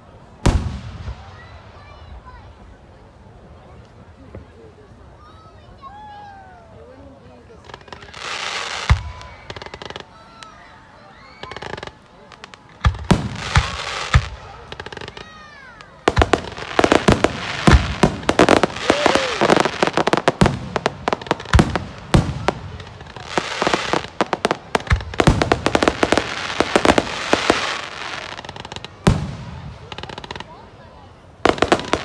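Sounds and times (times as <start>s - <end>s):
fireworks bangs and crackles: 0.4s - 2.5s, 7.4s - 10.6s, 11.2s - 32.0s.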